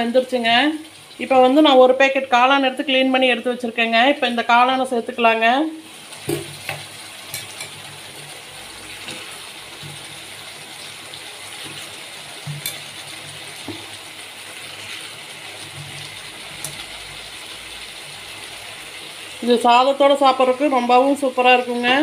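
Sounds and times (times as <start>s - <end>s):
gravy simmering with hiss: 0.0s - 2.4s, 5.1s - 22.0s.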